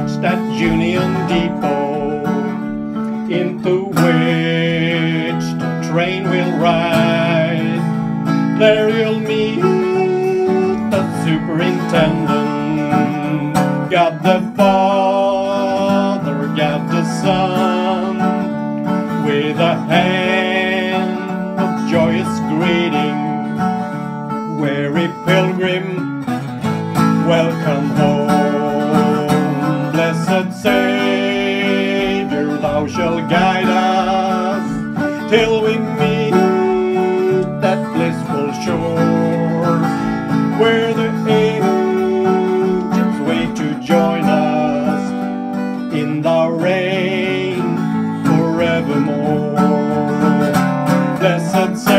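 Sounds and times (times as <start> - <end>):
guitar lead melody: 0.0 - 51.9
person singing: 0.0 - 51.9
strummed acoustic guitar chords: 0.0 - 51.9.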